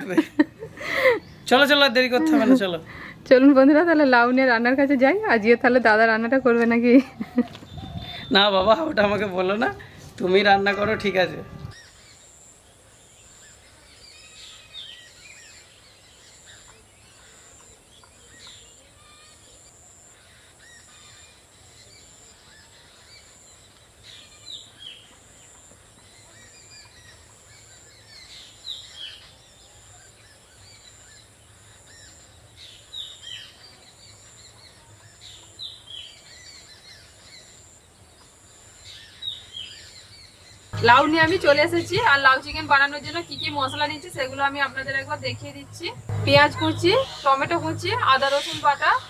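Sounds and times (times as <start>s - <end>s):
small birds chirping: 0.0s - 4.3s, 4.9s - 10.9s, 11.6s - 49.0s
faint steady high hiss: 0.0s - 49.0s.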